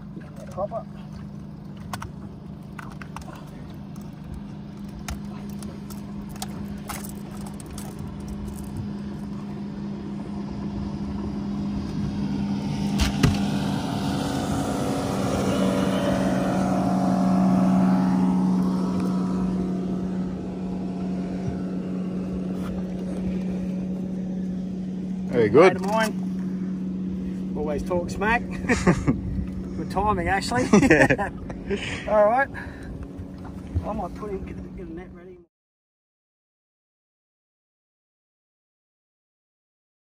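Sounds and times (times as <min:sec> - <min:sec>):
motorboat engine passing: 0:00.0 - 0:35.5
outboard motor running: 0:00.0 - 0:35.5.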